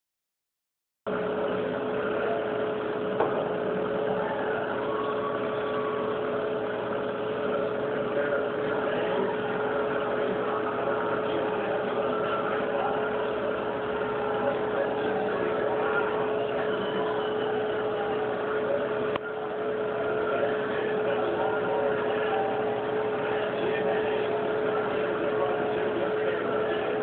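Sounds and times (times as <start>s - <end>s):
aquarium pumps humming: 1.1s - 27.0s.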